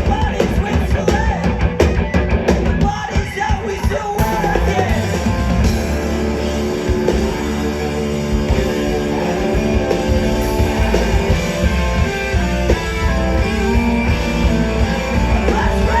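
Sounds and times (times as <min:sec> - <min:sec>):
bass: 0:00.0 - 0:16.0
distorted electric guitars: 0:00.0 - 0:16.0
drum kit: 0:00.0 - 0:16.0.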